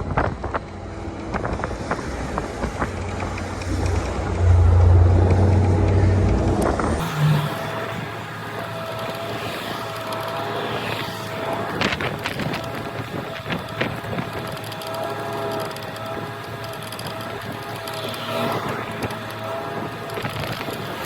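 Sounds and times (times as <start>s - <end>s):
diesel truck engine running: 0.0s - 21.0s
mechanical whine: 0.0s - 21.0s.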